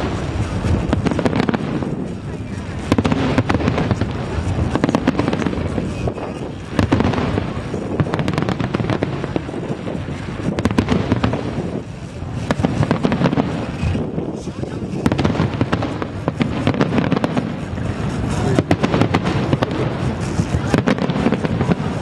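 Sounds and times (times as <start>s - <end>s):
fireworks bangs and crackling: 0.0s - 22.0s
fireworks rolling rumble: 0.0s - 22.0s.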